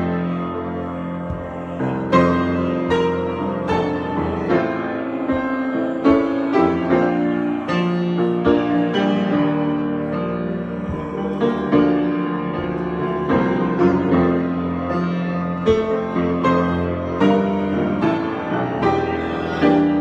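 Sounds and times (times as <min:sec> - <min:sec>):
solo piano chords and notes: 0:00.0 - 0:20.0.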